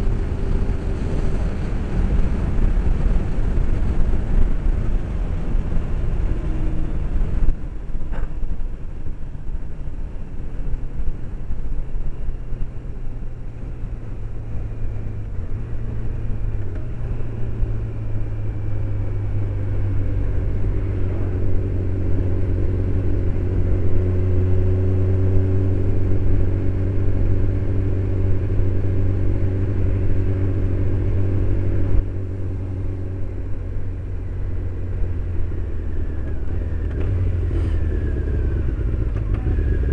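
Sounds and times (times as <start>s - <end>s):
low wind rumble: 0.0s - 39.9s.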